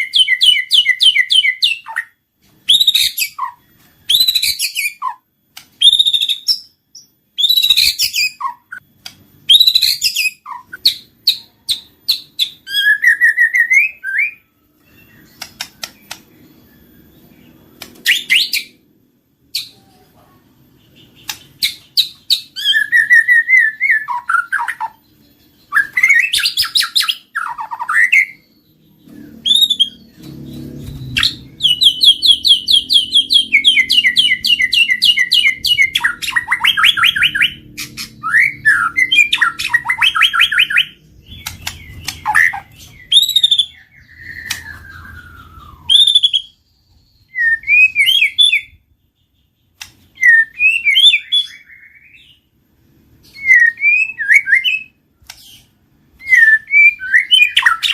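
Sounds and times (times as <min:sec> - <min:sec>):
bird singing trills and whistles: 0:00.0 - 0:18.8, 0:20.7 - 0:52.6, 0:53.2 - 0:57.9
faint low hum: 0:01.8 - 0:57.9.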